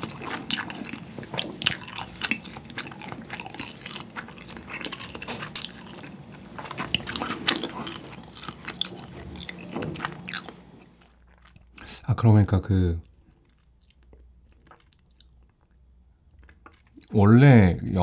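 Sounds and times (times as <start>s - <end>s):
close-up wet chewing: 0.0s - 17.2s.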